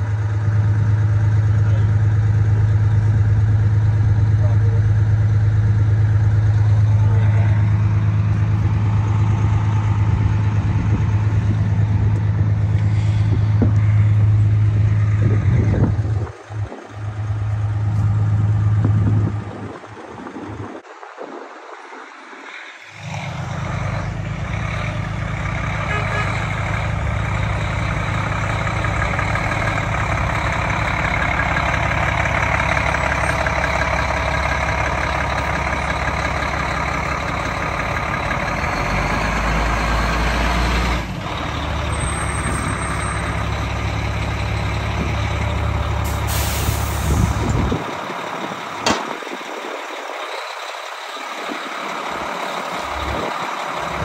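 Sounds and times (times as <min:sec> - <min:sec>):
heavy diesel truck engine running: 0:00.0 - 0:54.0.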